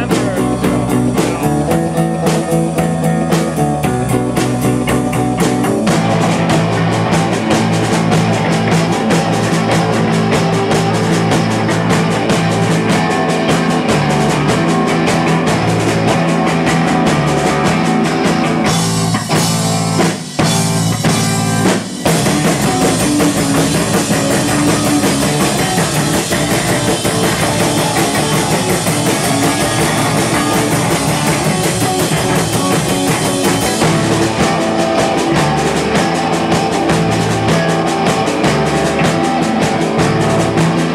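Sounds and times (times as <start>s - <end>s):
distorted electric guitars: 0.0s - 40.9s
drum kit: 0.0s - 40.9s.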